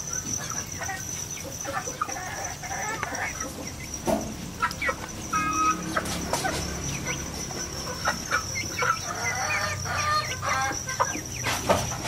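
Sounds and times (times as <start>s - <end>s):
high-pitched whine: 0.0s - 11.4s
hens clucking: 0.0s - 12.0s.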